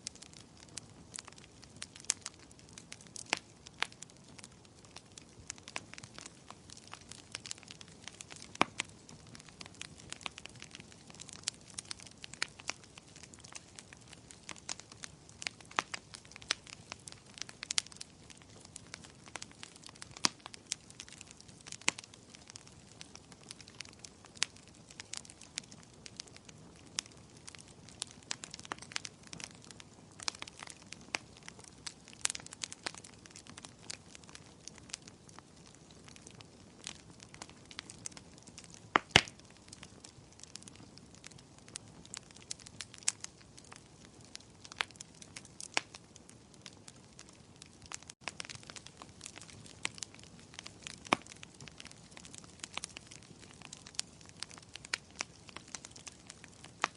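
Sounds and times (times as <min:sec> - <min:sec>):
firewood crackling: 0:00.0 - 0:56.9.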